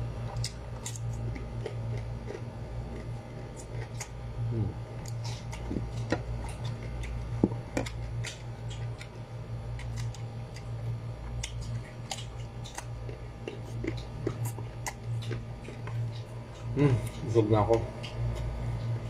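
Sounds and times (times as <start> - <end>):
low hum: 0.0 - 19.0
crunchy chewing: 0.2 - 19.0.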